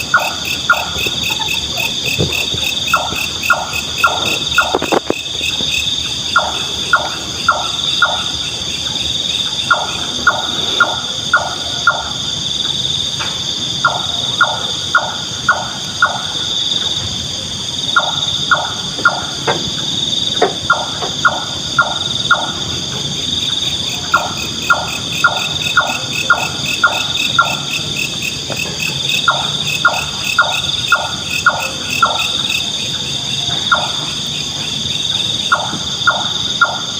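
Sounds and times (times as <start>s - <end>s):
insects droning: 0.0s - 36.9s.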